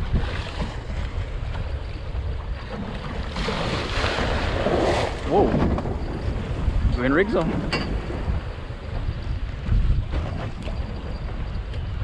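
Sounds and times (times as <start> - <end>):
water washing around boat: 0.0 - 12.0
wind rumbling on microphone: 0.0 - 12.0.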